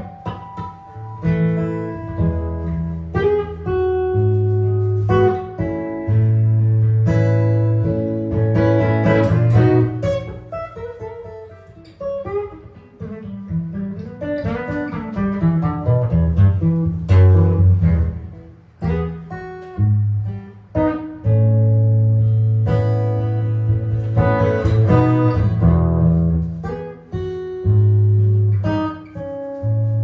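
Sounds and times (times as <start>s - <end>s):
jazz guitar solo: 0.0s - 30.0s.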